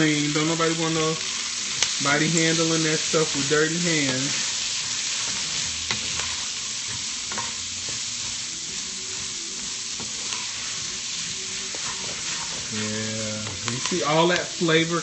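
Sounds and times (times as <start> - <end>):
vegetables sizzling in a pot: 0.0 - 15.0.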